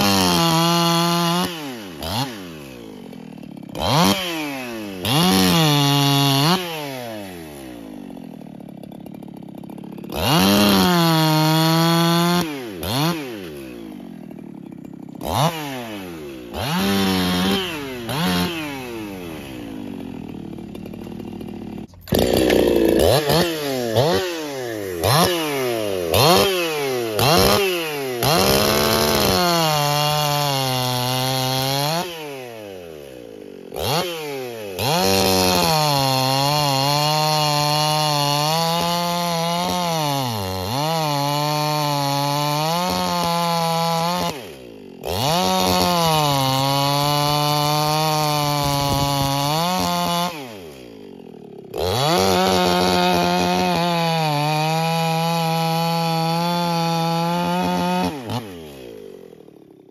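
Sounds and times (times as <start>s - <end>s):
chainsaw revving and cutting log: 0.0s - 59.9s.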